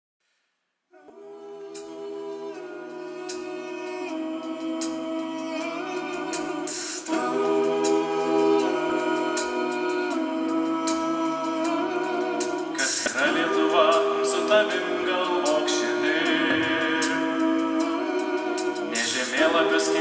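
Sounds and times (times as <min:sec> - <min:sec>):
choir singing sustained chords: 0:00.9 - 0:20.0.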